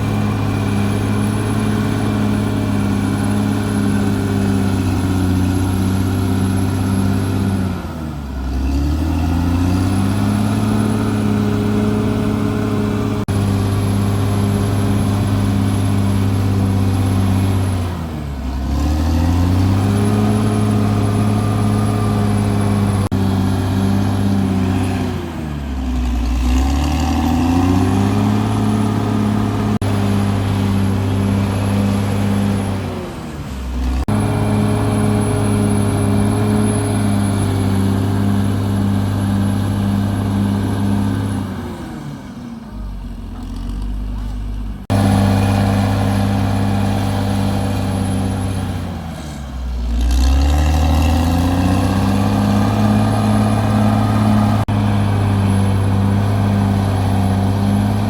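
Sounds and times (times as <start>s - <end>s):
bulldozer diesel engine running hard: 0.0s - 58.0s.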